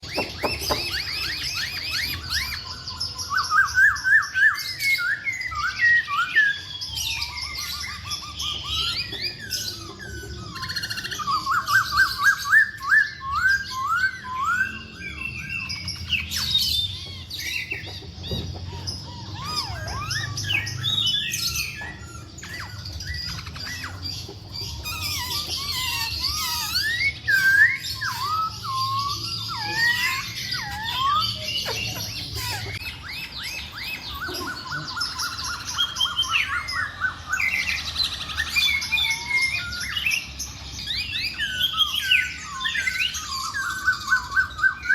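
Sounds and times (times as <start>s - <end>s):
bird song with rising whistles: 0.0s - 44.9s.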